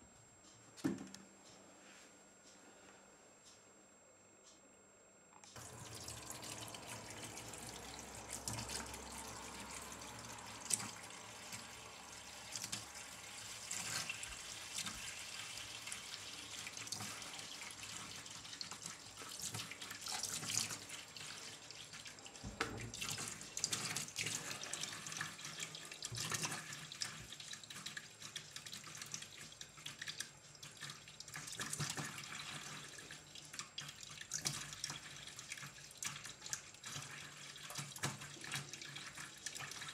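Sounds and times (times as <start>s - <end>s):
tap water running into sink: 5.6s - 39.9s.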